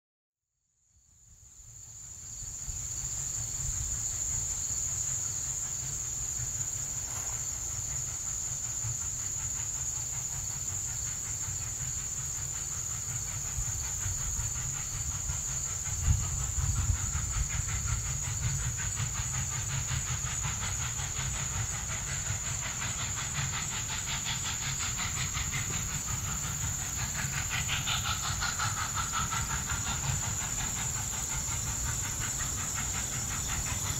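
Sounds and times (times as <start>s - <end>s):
steam locomotive exhaust and hiss: 1.0s - 33.9s.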